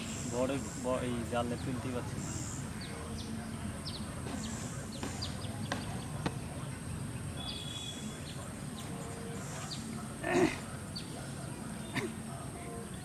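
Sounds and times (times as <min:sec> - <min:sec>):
low background murmur: 0:00.0 - 0:13.0
small birds chirping: 0:00.0 - 0:13.0.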